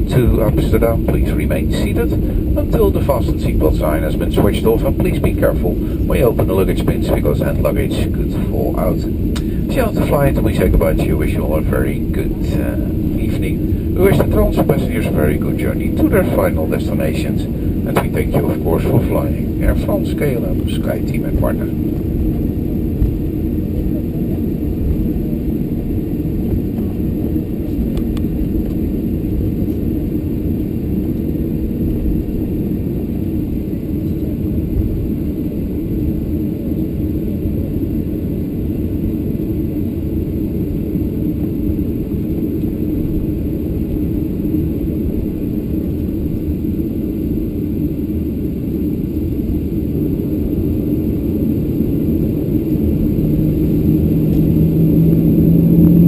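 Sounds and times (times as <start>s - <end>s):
airplane cabin rumble taxiing: 0.0s - 56.0s.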